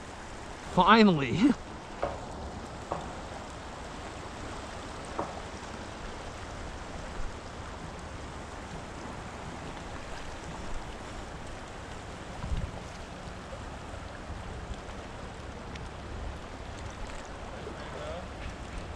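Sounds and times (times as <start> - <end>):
river rushing over rocks: 0.0 - 18.9.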